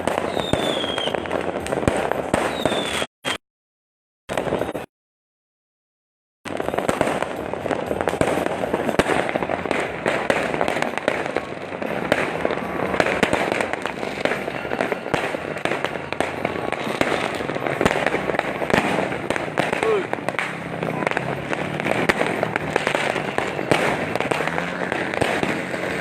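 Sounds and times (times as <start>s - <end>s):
fireworks and firecrackers banging: 0.0s - 3.4s, 4.3s - 4.9s, 6.5s - 26.0s.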